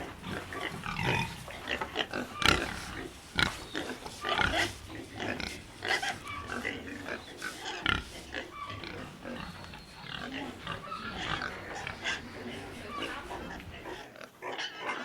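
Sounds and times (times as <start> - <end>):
pig calls: 0.0 - 15.0.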